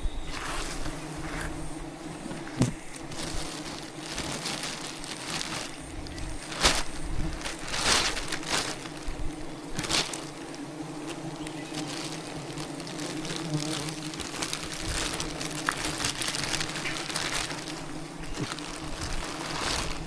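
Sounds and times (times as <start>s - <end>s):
bees humming: 0.0s - 20.0s
rustling crunching noises: 0.0s - 20.0s.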